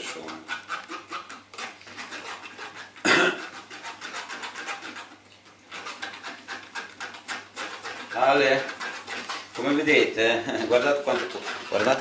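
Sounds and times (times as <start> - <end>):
hands scraping and rubbing: 0.0 - 12.0.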